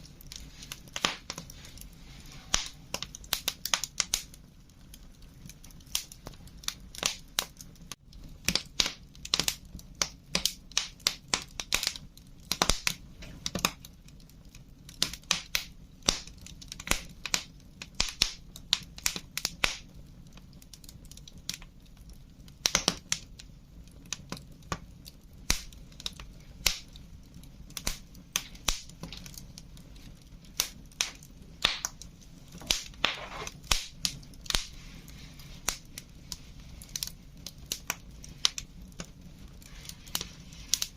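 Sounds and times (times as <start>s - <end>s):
low rumble of burning fire: 0.0s - 40.9s
wood fire crackling and popping: 0.0s - 40.9s.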